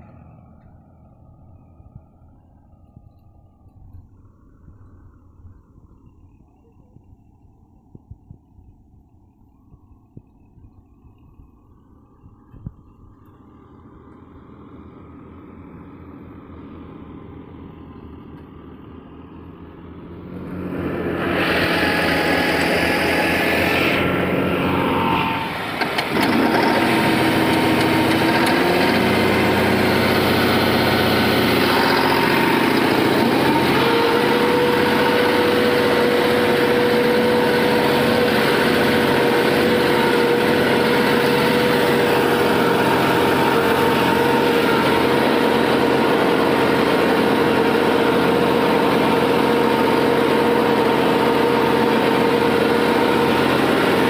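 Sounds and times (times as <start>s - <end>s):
steady whine: 0.0s - 54.0s
tractor diesel engine running: 0.0s - 54.0s.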